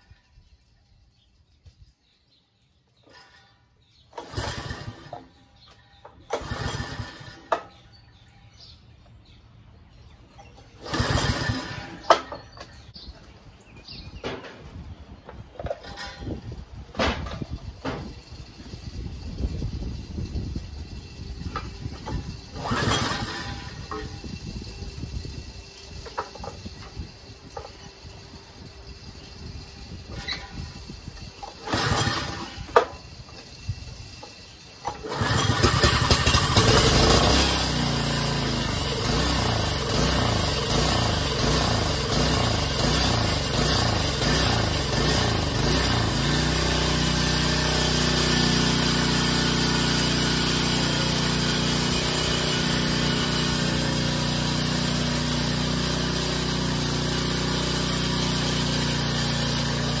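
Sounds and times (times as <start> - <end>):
tiller engine starting and running: 2.6 - 60.0.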